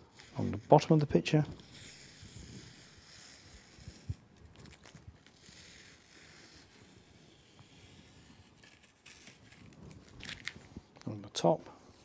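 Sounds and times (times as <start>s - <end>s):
tape peeling off paper: 0.1s - 11.1s.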